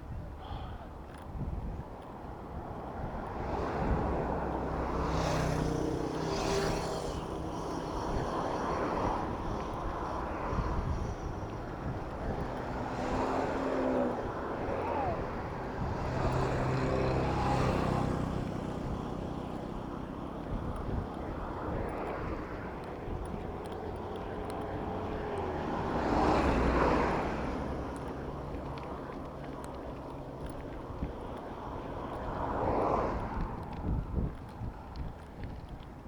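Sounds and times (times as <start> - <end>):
traffic hum: 0.0 - 36.0
vehicle passing by: 3.0 - 35.7.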